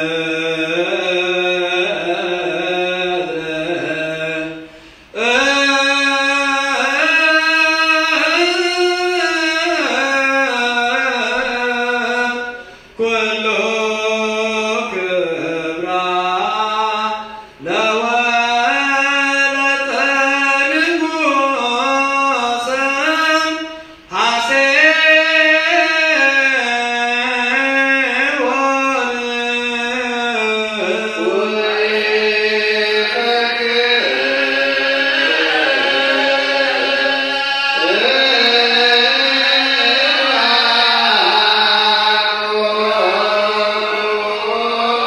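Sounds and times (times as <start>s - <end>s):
person chanting melismatically: 0.0s - 45.0s.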